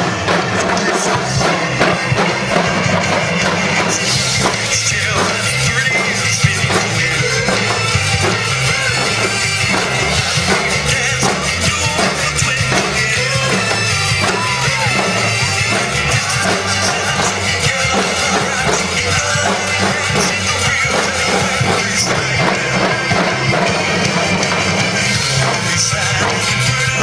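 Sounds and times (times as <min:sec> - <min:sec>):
cymbals: 0:00.0 - 0:27.0
drum ensemble playing: 0:00.0 - 0:27.0.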